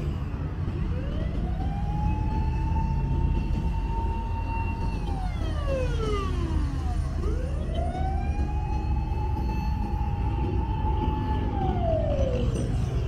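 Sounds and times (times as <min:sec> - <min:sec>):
street noise rumble: 0:00.0 - 0:13.0
siren wailing: 0:00.9 - 0:13.0.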